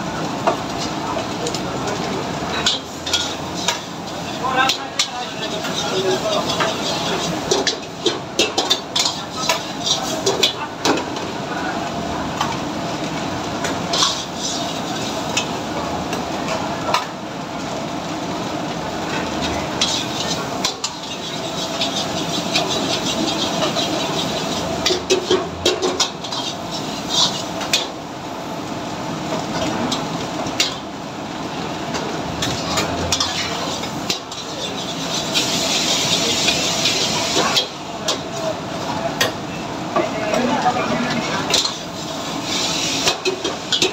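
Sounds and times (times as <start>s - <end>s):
food sizzling: 0.0s - 43.9s.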